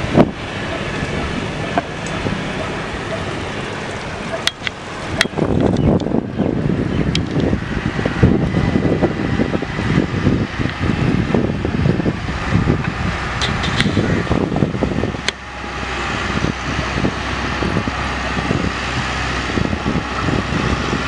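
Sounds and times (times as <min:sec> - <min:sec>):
tractor diesel engine running: 0:00.0 - 0:21.0
wind rumbling on microphone: 0:00.0 - 0:21.0.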